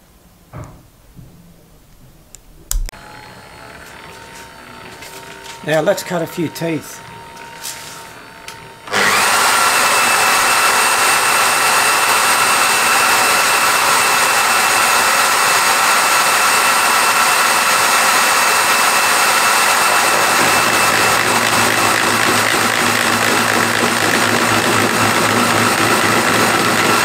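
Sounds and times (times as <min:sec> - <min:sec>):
gear cutter motor whining: 0:02.7 - 0:27.0.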